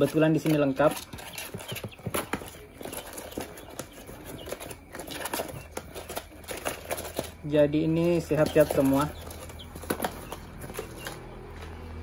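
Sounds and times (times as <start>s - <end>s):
birds scratching on cardboard: 0.0s - 11.9s.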